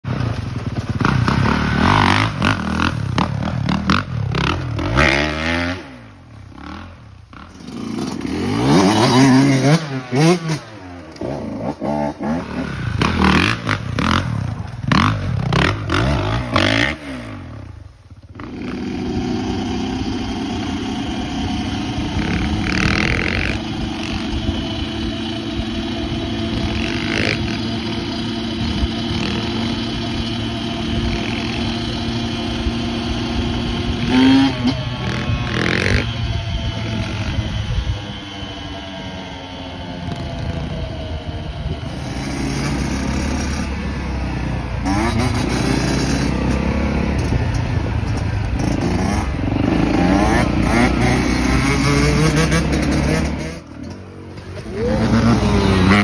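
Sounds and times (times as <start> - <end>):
dirt bike engine revving: 0.0 - 56.0
steady engine drone: 0.0 - 56.0.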